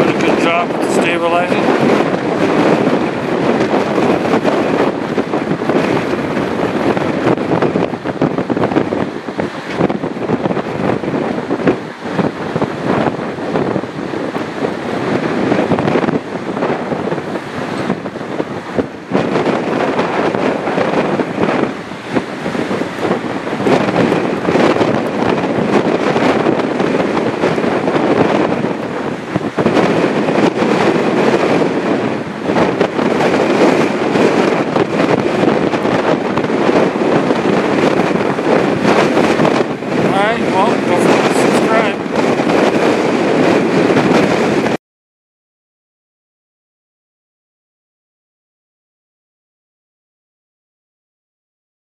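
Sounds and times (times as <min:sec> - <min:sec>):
gusty wind buffeting microphone: 0:00.0 - 0:44.8.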